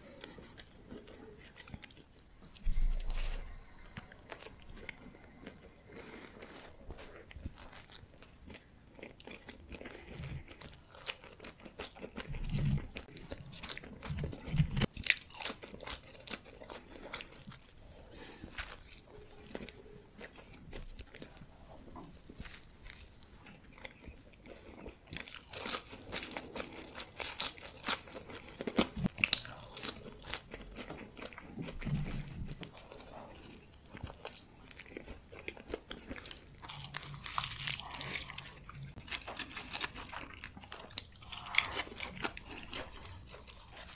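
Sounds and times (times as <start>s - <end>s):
wet chewing: 0.0s - 43.9s.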